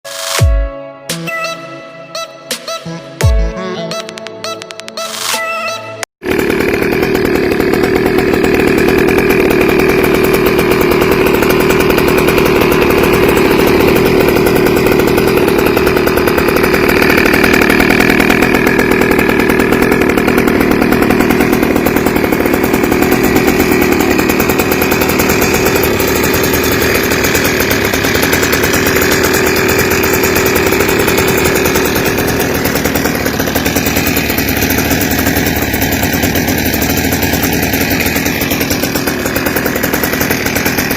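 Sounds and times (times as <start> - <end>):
scooter two-stroke engine running: 5.7 - 40.9.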